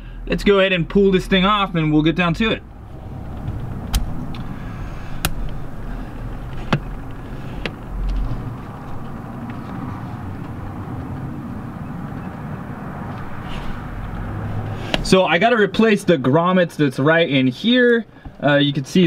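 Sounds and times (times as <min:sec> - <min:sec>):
steady low rumble: 0:00.0 - 0:17.2.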